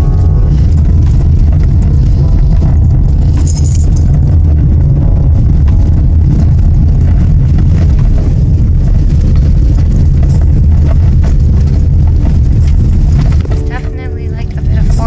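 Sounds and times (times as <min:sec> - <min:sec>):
car interior rattling and knocking: 0:00.0 - 0:15.0
road and tyre rumble: 0:00.0 - 0:15.0.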